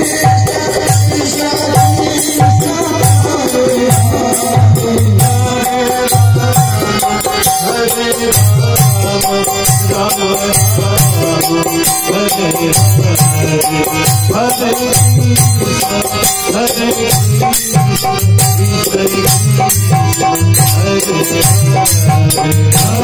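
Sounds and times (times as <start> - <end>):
harmonium drone: 0.0 - 23.0
high percussion strokes: 0.0 - 23.0
low drum beats: 0.0 - 23.0.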